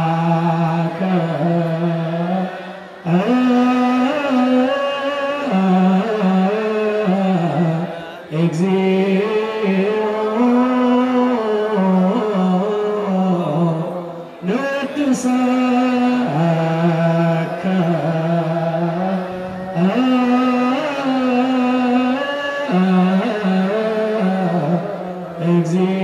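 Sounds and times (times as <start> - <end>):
liturgical chant: 0.0 - 26.0.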